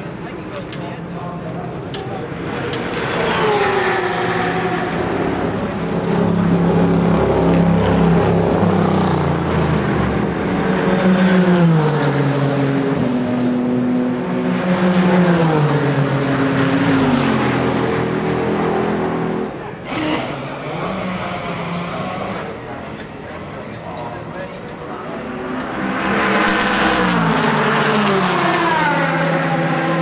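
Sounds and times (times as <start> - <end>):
race car engines downshifting: 0.0 - 30.0.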